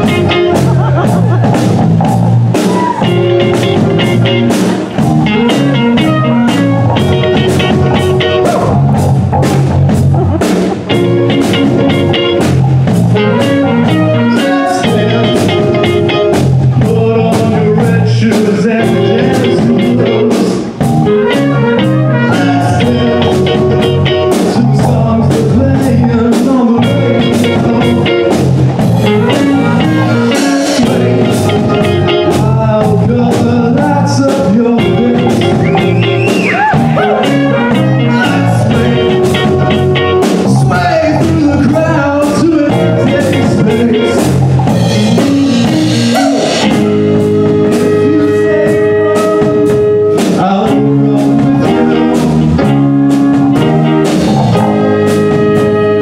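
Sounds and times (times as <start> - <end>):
live band playing: 0.0 - 56.0
steady drum beat: 0.0 - 56.0.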